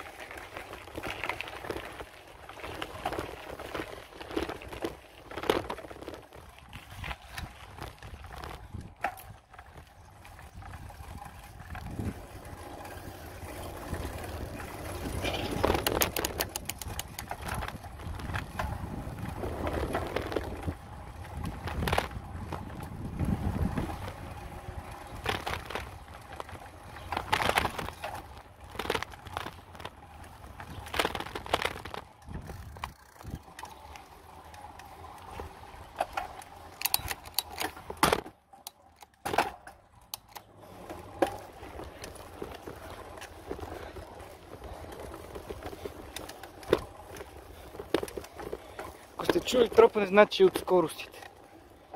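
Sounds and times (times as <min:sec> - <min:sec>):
bicycle rattles and knocks: 0:00.0 - 0:51.9
road and wind rumble: 0:00.0 - 0:51.9.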